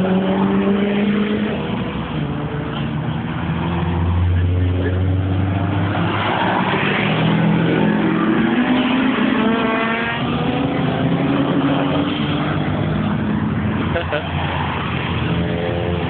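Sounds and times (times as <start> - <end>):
cars accelerating past: 0.0 - 16.0.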